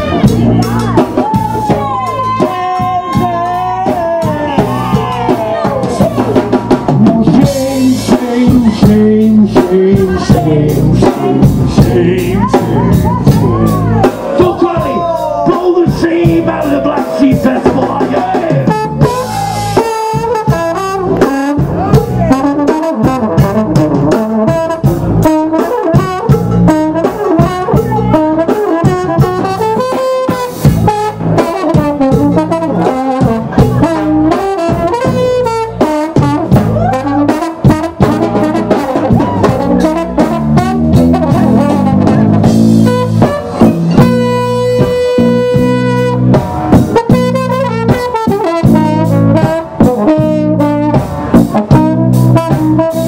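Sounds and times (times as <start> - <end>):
driving drum kit: 0.0 - 53.0
electric bass: 0.0 - 53.0
trombone melody: 0.0 - 53.0.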